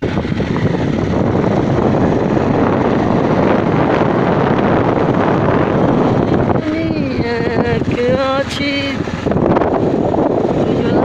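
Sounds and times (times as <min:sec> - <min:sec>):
motorbike running noise: 0:00.0 - 0:11.0
wind buffeting microphone: 0:00.0 - 0:11.0.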